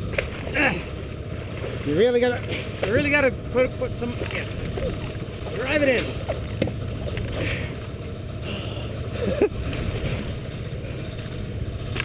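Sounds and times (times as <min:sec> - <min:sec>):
boat engine rumbling: 0:00.0 - 0:12.0
water sloshing and splashing: 0:00.0 - 0:12.0.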